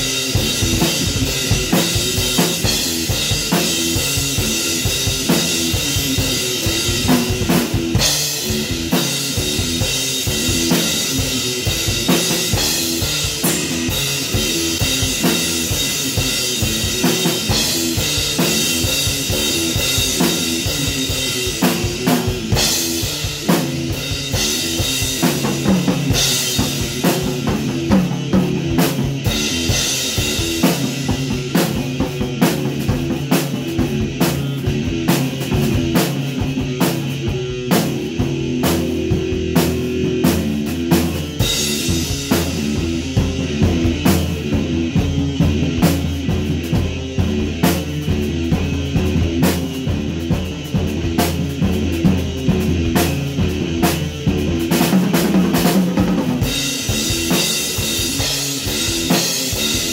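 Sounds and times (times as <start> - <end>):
electric guitar heavy riff: 0.0 - 59.9
rock drum beat: 0.0 - 59.9.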